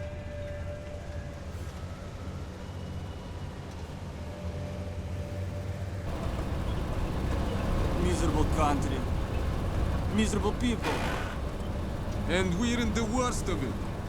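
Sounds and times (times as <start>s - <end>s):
faint film score tones: 0.0s - 14.0s
vehicle engine rumbling: 0.0s - 14.0s.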